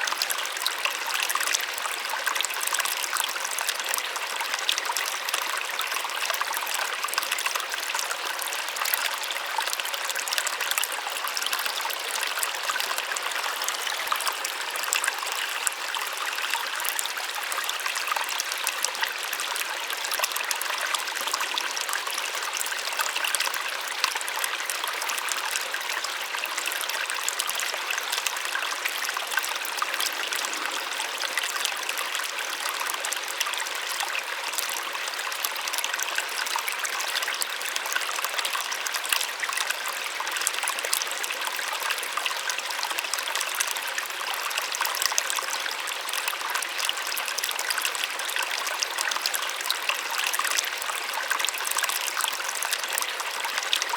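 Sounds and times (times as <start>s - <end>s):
small waterfall splashing: 0.0s - 53.9s.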